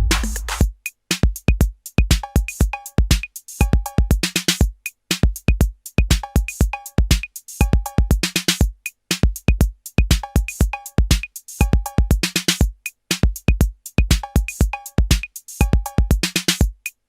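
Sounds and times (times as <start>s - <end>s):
electronic music with drum-machine beat: 0.0s - 17.0s.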